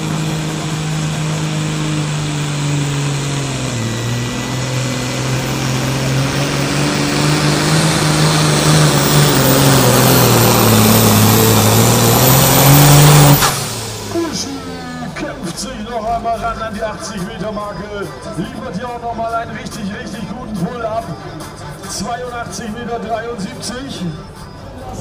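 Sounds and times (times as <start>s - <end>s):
tractor engine running hard: 0.0s - 23.6s.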